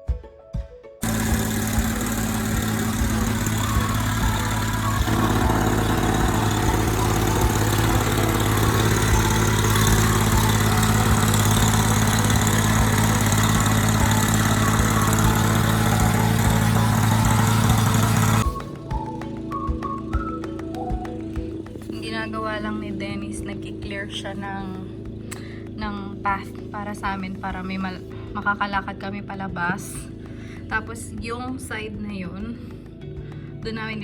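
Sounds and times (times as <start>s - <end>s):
snowblower engine running: 1.0s - 30.8s.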